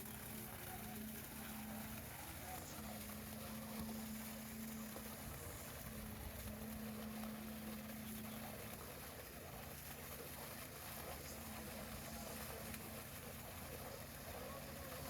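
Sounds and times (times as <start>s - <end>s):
construction machinery engine humming: 0.0s - 15.0s.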